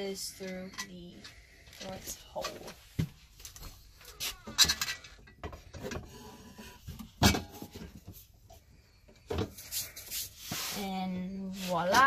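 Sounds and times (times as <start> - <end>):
handling and rubbing noises: 1.7 - 12.0.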